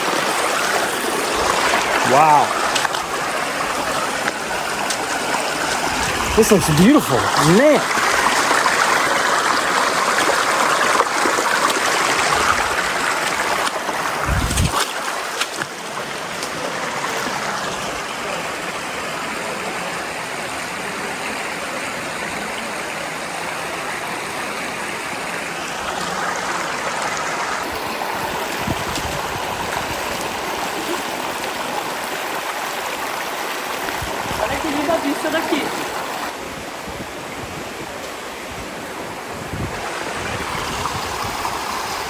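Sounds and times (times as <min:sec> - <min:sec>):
flowing water rushing: 0:00.0 - 0:42.0.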